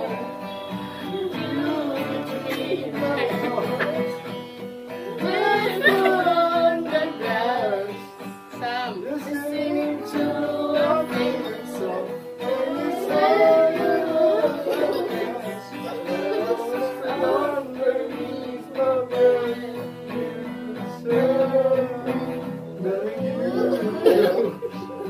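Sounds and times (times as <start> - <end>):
acoustic guitar strumming chords: 0.0 - 25.0
children singing: 0.0 - 25.0.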